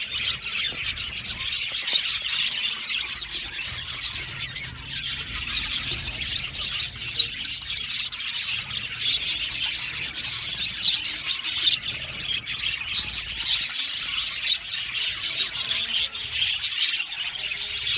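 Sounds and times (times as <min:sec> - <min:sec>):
budgerigars chattering and chirping: 0:00.0 - 0:17.9.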